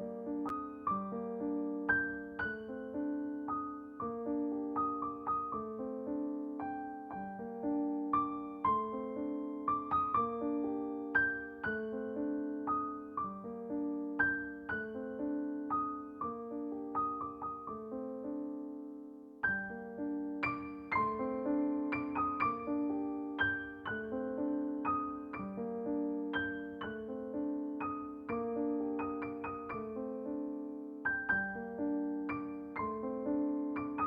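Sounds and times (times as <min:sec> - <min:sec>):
gentle solo piano piece: 0:00.0 - 0:34.0.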